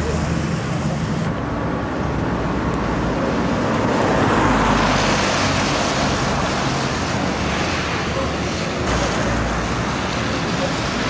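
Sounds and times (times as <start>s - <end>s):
traffic hiss on wet road: 0.0s - 11.0s
vehicle passing: 0.0s - 11.0s.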